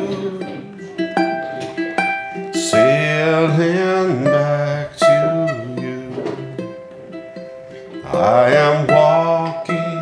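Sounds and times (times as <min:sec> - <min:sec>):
person singing long notes: 0:00.0 - 0:01.8, 0:02.5 - 0:06.8, 0:07.9 - 0:10.0
ukulele picking: 0:00.0 - 0:10.0.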